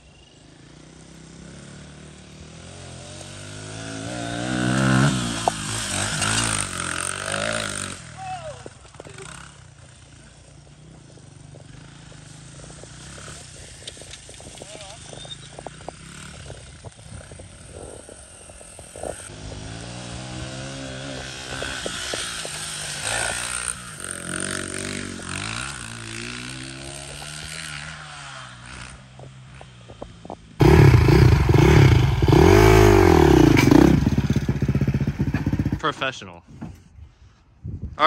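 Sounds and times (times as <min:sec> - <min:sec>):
dirt bike engine revving: 0:00.9 - 0:29.8, 0:30.6 - 0:36.1.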